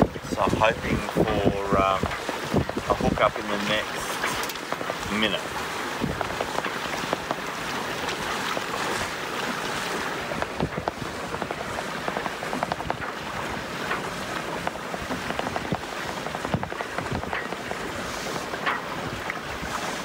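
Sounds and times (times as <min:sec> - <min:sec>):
water splashing along hull: 0:00.0 - 0:20.0
wind buffeting microphone: 0:00.0 - 0:20.0
short splashy ticks: 0:00.8 - 0:05.3, 0:06.0 - 0:20.0.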